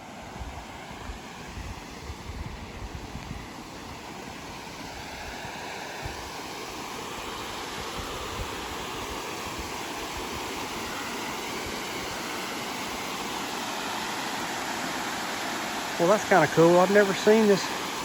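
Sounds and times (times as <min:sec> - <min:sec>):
water rushing over spillway: 0:00.0 - 0:18.0.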